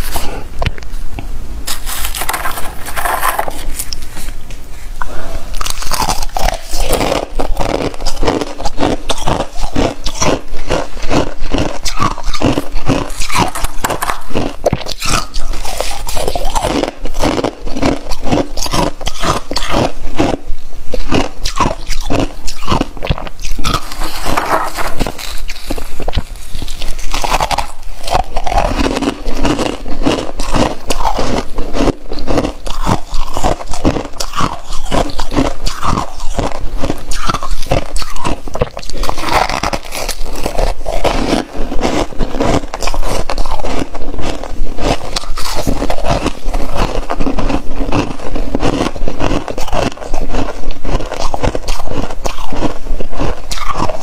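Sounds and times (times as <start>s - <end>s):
frost crunching in hand: 5.5s - 54.0s.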